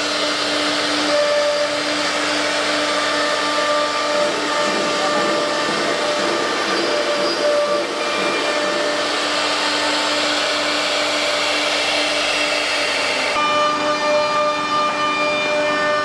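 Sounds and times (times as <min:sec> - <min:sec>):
router machine whining: 0:00.0 - 0:16.0.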